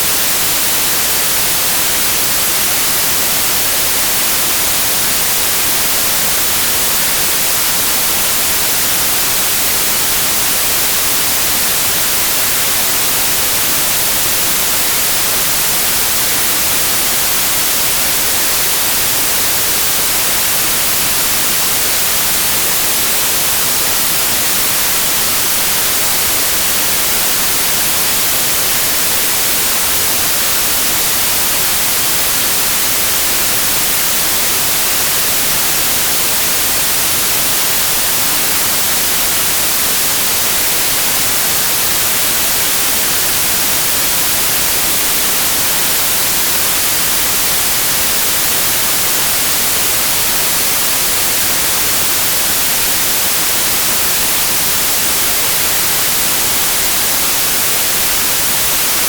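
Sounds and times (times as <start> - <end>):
loud white noise hiss: 0.0 - 59.0.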